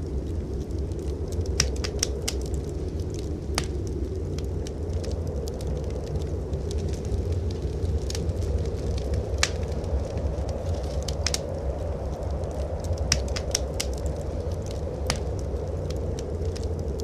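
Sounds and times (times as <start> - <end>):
blizzard wind rumble: 0.0 - 17.0
fire popping: 0.0 - 17.0
wood fire crackling: 0.0 - 17.0.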